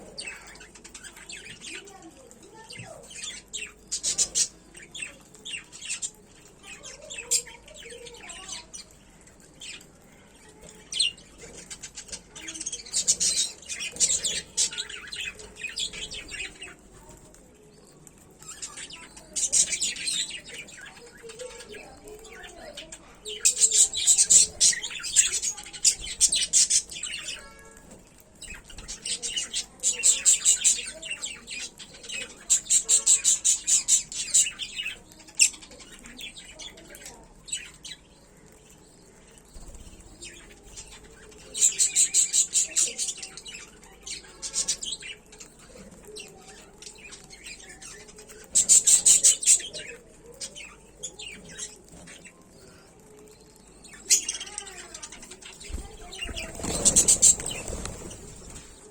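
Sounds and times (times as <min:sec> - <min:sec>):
lovebirds chirping: 0:00.0 - 0:58.9.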